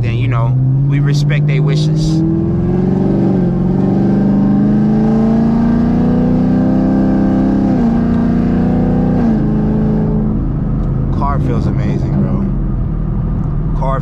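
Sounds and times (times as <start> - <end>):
car engine accelerating and shifting: 0.0 - 14.0.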